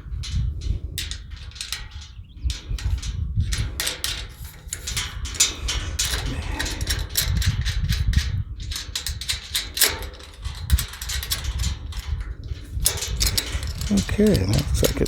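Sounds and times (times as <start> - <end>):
low wind rumble: 0.0 - 15.0
metallic clicks of wrench and bolts: 0.2 - 15.0.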